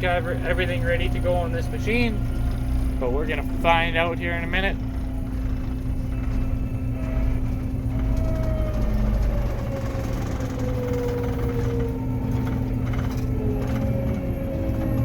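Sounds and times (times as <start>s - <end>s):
diesel engine running: 0.0s - 15.0s
faint whine dropping in pitch: 0.0s - 15.0s.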